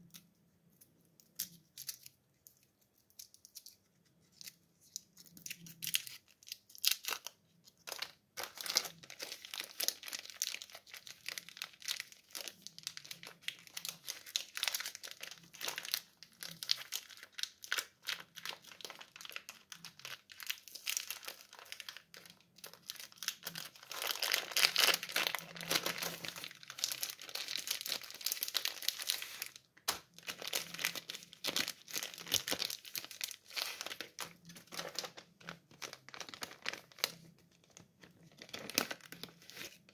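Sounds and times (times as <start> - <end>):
candy wrappers crinkling: 0.0 - 39.9.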